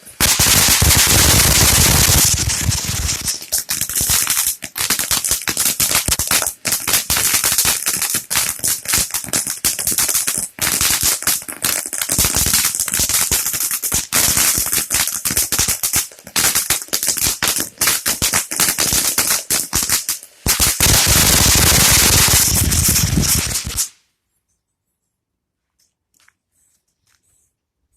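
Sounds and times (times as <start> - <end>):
firework crackling and banging: 0.0 - 24.0.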